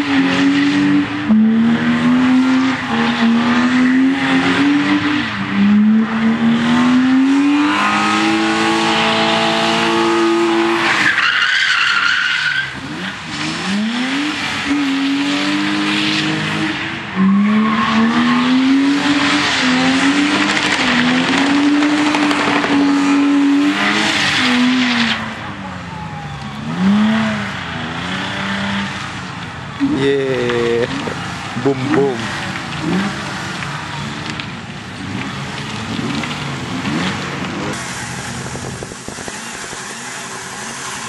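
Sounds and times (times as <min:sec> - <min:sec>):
car engine revving high: 0:00.0 - 0:11.2, 0:12.0 - 0:25.4, 0:26.6 - 0:41.0.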